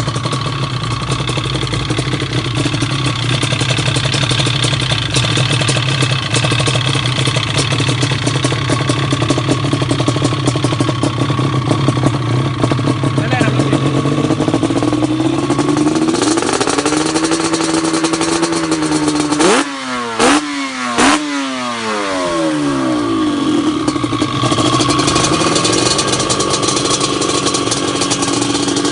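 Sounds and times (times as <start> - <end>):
two-stroke engine revving: 0.0 - 28.9.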